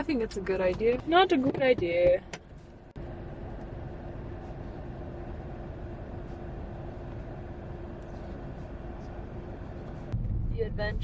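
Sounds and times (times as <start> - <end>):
car engine and road rumble: 0.0 - 11.0
constant low hum: 0.0 - 11.0.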